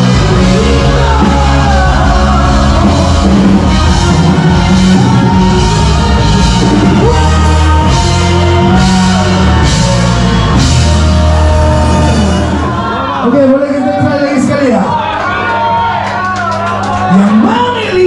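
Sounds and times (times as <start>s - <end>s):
rock band playing live: 0.0s - 14.9s.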